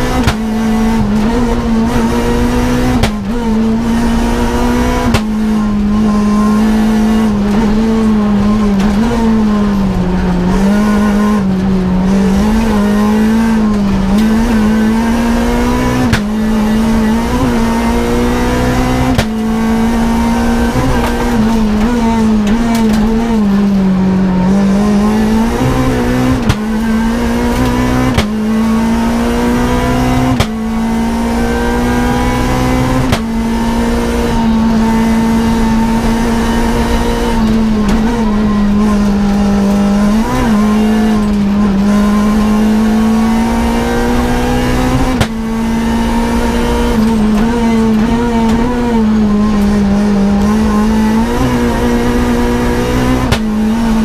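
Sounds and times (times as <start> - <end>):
gear changes: 0.0 - 54.0
rally car engine revving: 0.0 - 54.0.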